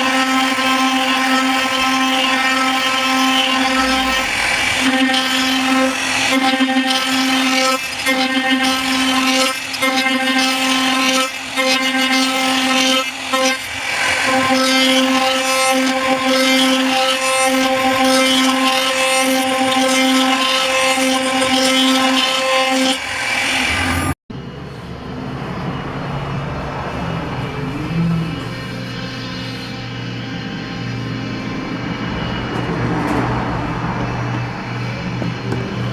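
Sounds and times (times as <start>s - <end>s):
power tool motor whining: 0.0s - 24.2s, 26.9s - 35.9s.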